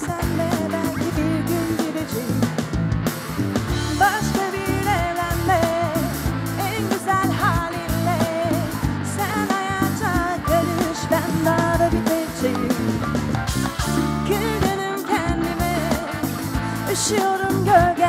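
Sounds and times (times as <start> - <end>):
bending melodic line: 0.0 - 18.0
live pop band playing: 0.0 - 18.0.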